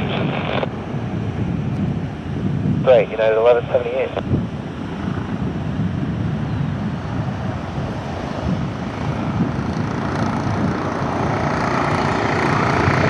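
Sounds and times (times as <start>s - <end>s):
jet engines at high power: 0.0s - 13.0s
wind buffeting microphone: 0.0s - 13.0s.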